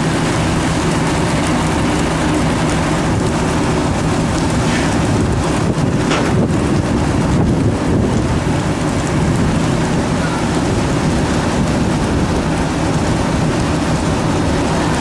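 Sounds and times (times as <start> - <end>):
boat engine and deck machinery: 0.0 - 15.0
wind on microphone: 1.1 - 15.0.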